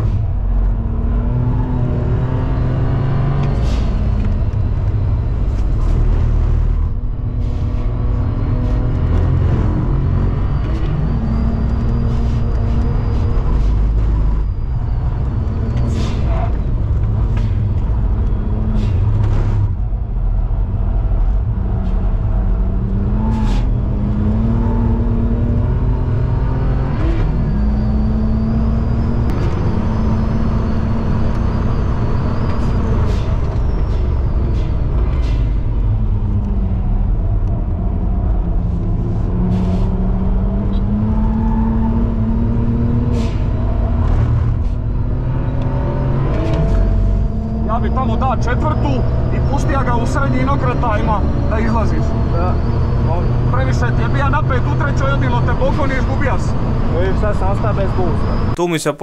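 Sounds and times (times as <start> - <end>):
car engine revving: 0.0 - 58.6
road and wind rumble: 0.0 - 59.0.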